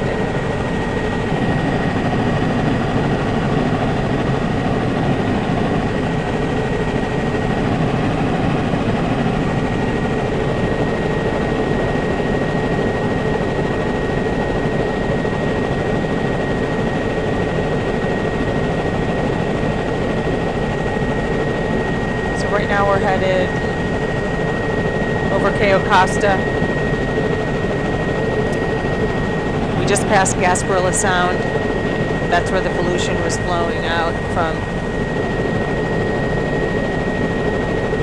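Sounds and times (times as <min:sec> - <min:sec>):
aircraft drone from cabin: 0:00.0 - 0:38.0.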